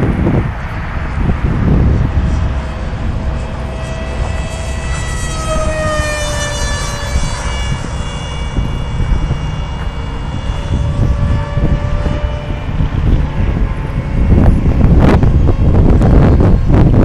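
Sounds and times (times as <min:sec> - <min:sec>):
electric propeller whining: 0:00.0 - 0:17.0
wind rumble on microphone: 0:00.0 - 0:17.0.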